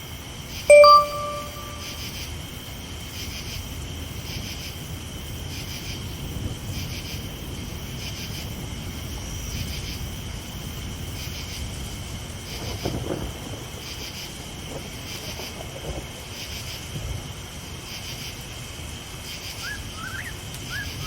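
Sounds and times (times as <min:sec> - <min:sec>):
crickets chirping: 0:00.0 - 0:21.0
low storm rumble: 0:02.0 - 0:21.0.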